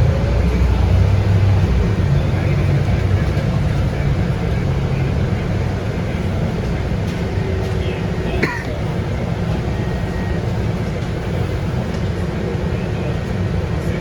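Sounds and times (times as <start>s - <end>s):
bus diesel engine rumbling: 0.0s - 14.0s.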